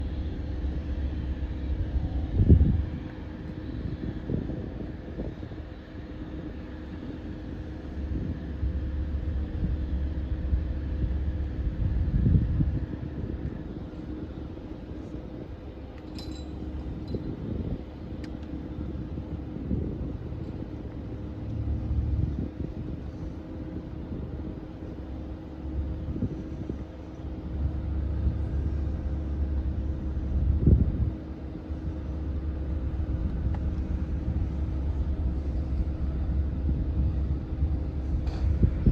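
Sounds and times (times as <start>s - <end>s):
helicopter engines rumbling: 0.0s - 38.9s.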